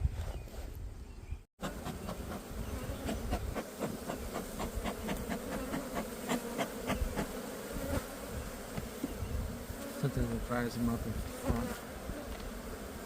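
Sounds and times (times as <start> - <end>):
honeybees buzzing: 1.6 - 13.0.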